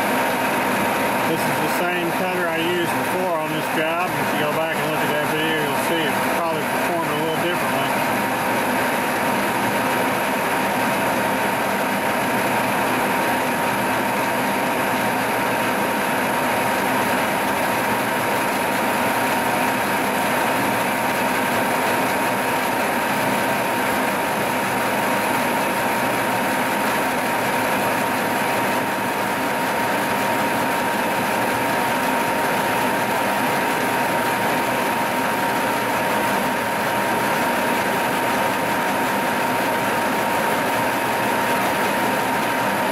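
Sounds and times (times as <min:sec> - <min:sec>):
milling machine cutting metal: 0:00.0 - 0:42.8.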